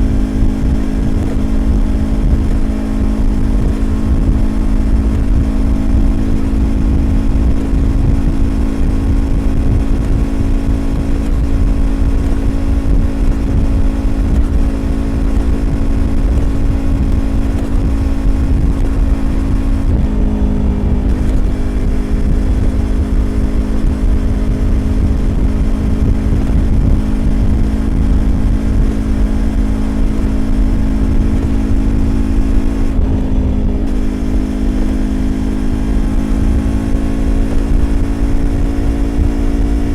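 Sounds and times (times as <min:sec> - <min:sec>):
motorcycle engine cruising: 0:00.0 - 0:39.9
road and wind rumble: 0:00.0 - 0:39.9.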